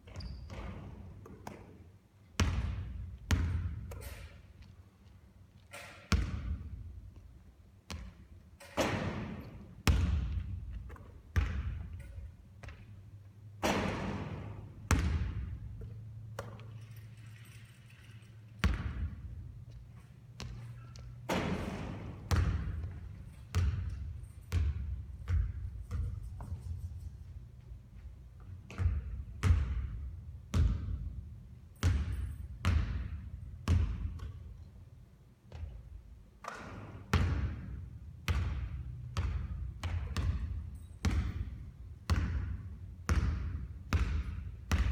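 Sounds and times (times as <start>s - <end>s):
basketballs bouncing on hard court: 0.0s - 4.7s, 6.1s - 17.0s, 18.6s - 34.7s, 35.5s - 44.9s.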